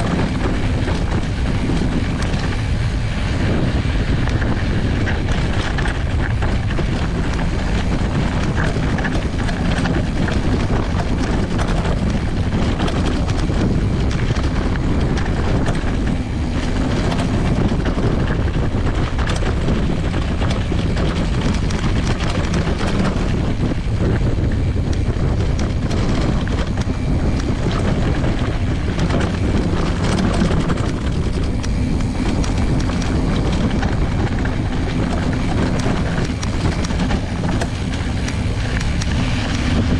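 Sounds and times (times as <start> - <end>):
bike rattling: 0.0 - 39.9
bike tyre rolling over gravel: 0.0 - 39.9
wind on microphone: 0.0 - 39.9.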